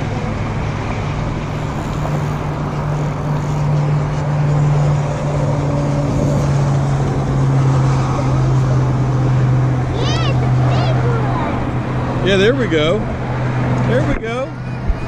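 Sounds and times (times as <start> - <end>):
boat motor droning: 0.0 - 15.0.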